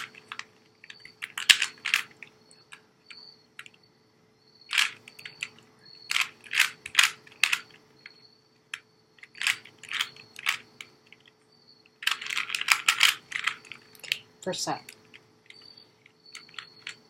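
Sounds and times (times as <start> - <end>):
puzzle cube clicking as turned: 0.0 - 3.8, 4.7 - 7.8, 8.7 - 11.3, 12.0 - 14.2, 14.8 - 17.0.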